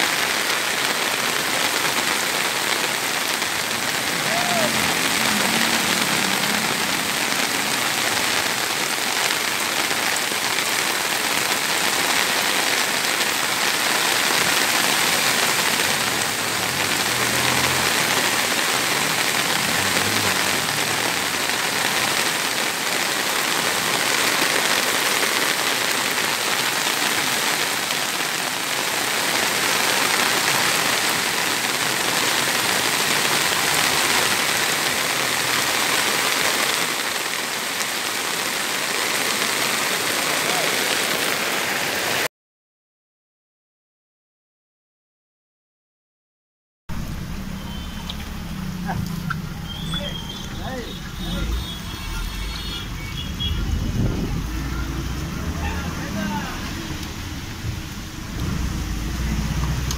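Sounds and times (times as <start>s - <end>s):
floodwater rushing: 0.0s - 42.3s, 46.9s - 59.9s
heavy rain pouring: 0.0s - 42.3s, 46.9s - 59.9s.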